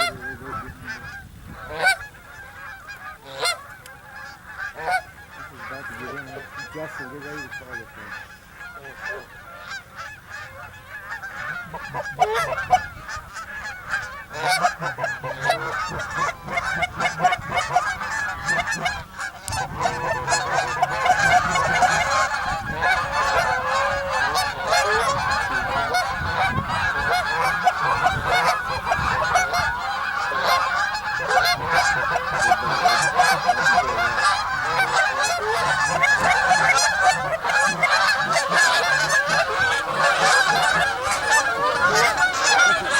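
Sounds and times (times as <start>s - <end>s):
geese honking: 0.0s - 42.9s.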